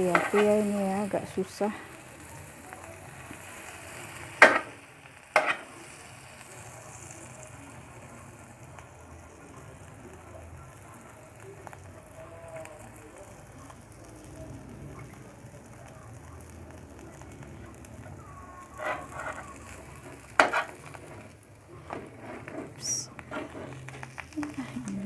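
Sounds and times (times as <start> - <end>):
bread sizzling in a pan: 0.0 - 25.0.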